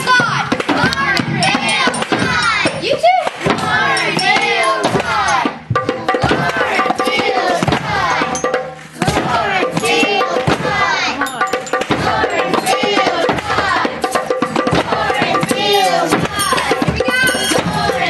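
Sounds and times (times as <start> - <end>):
children singing and calling out: 0.0 - 18.0
drums and hand percussion: 0.0 - 18.0.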